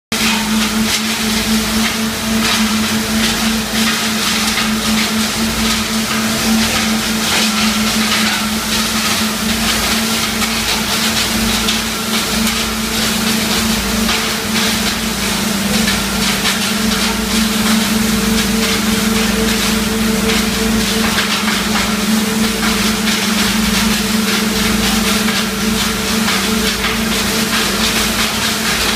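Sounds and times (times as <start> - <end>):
hammer mill machine drone: 0.1 - 28.9.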